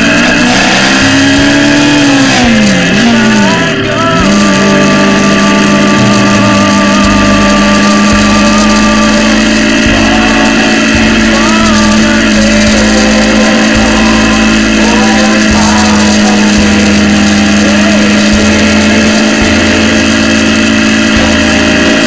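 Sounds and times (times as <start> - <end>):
motorcycle engine drone: 0.0 - 22.0.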